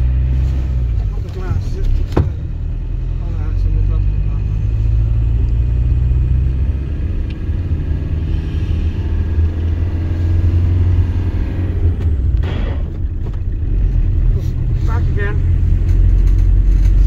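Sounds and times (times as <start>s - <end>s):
diesel van engine: 0.0s - 17.0s
road rumble: 0.0s - 17.0s.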